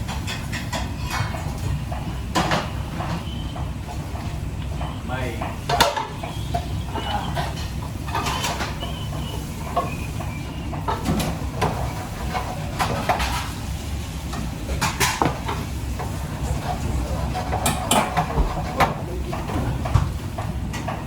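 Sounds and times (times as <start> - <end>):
utensils and dishes clinking: 0.0 - 21.0.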